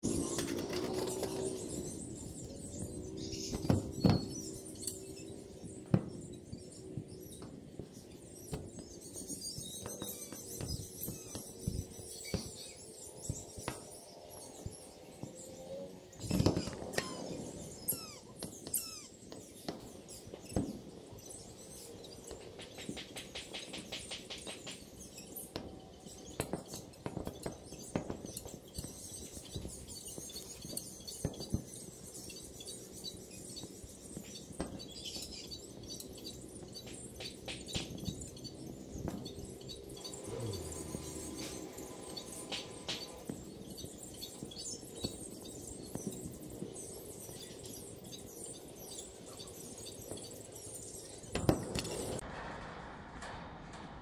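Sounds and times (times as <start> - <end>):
small birds chirping: 0.0 - 52.2.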